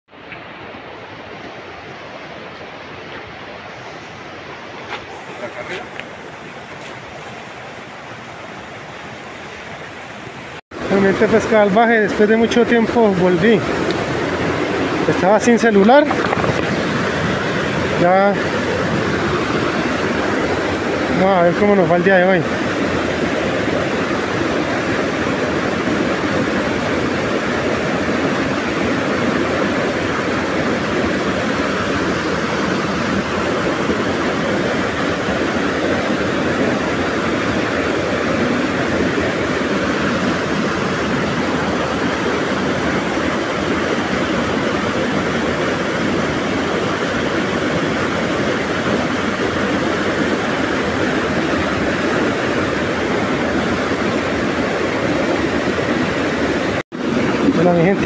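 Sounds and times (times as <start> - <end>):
waterfall rushing into pool: 0.1 - 58.0.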